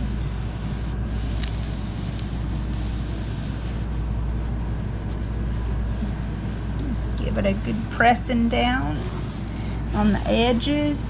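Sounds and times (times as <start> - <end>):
machine humming and hissing: 0.0 - 11.0.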